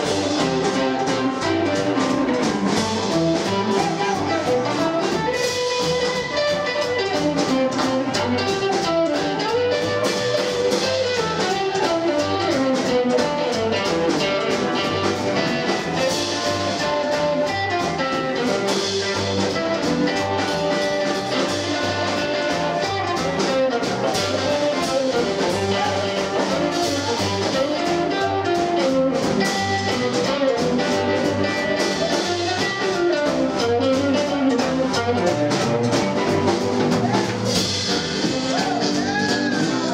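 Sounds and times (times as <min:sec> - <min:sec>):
drum kit steady beat: 0:00.0 - 0:39.9
electric guitar lead: 0:00.0 - 0:39.9
upright double bass: 0:00.0 - 0:39.9.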